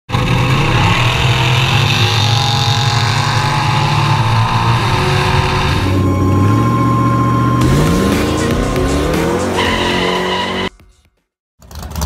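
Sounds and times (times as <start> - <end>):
car engine running steadily: 0.1 - 10.3.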